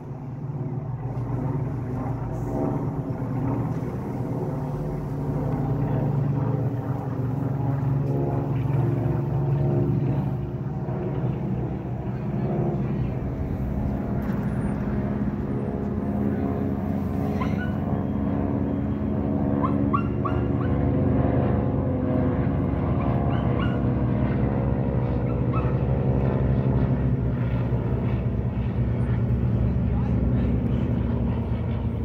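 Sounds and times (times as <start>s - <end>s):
propeller airplanes droning overhead: 0.0s - 32.0s.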